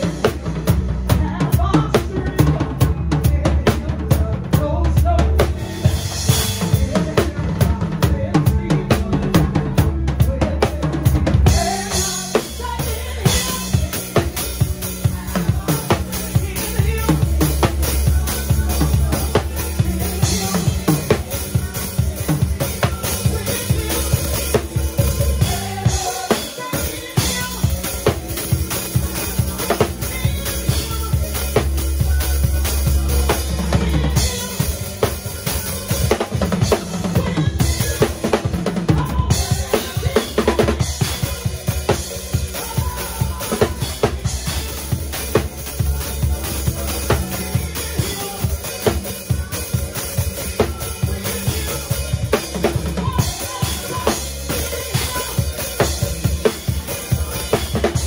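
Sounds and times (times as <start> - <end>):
bass line: 0.0 - 58.0
drum kit fast beat: 0.0 - 58.0.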